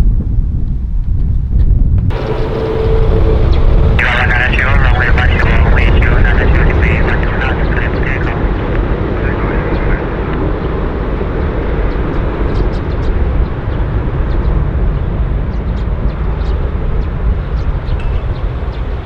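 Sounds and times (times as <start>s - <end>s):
aircraft engine rumbling: 2.1s - 19.0s.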